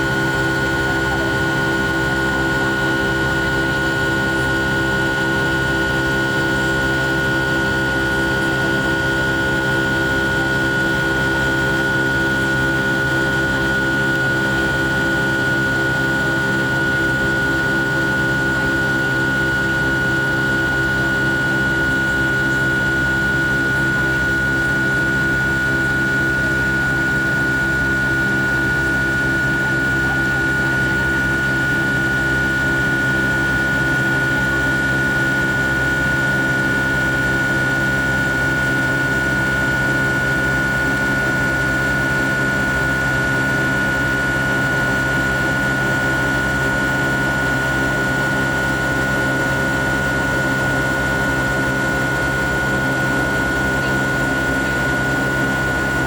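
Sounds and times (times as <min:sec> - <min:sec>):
high-pitched engine whine: 0:00.0 - 0:56.0
jet engine drone: 0:00.0 - 0:56.0.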